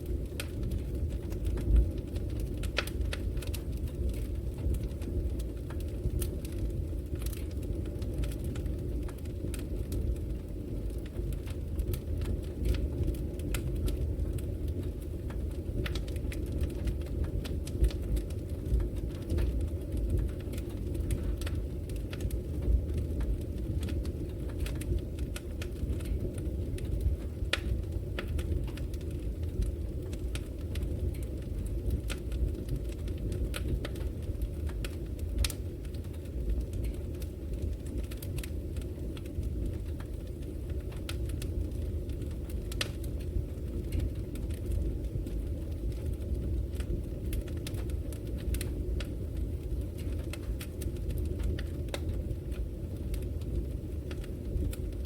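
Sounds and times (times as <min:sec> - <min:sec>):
fire crackling and popping: 0:00.0 - 0:55.0
low rumble of flame: 0:00.0 - 0:55.0.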